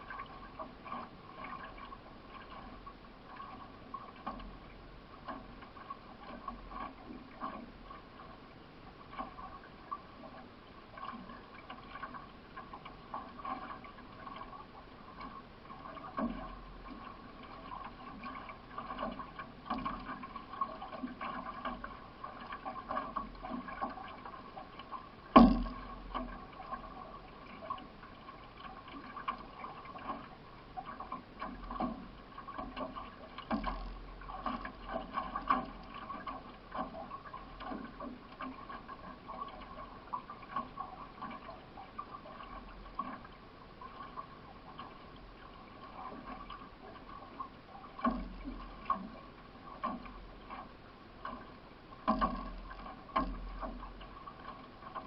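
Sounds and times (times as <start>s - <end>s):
paddle strokes in water: 0.0s - 55.0s
water rushing along canoe hull: 0.0s - 55.0s.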